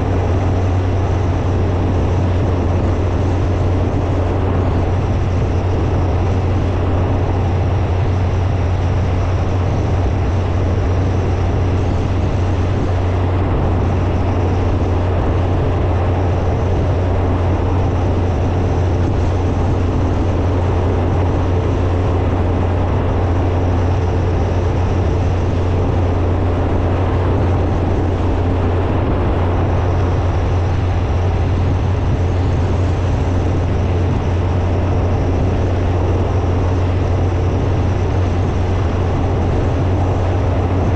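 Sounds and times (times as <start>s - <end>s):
motorcycle engine drone: 0.0s - 40.9s
wind rushing noise: 0.0s - 40.9s.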